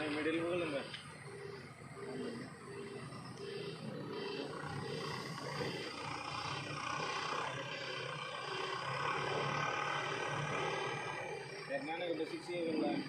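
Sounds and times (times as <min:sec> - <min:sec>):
heavy diesel machinery roaring: 0:00.0 - 0:13.0.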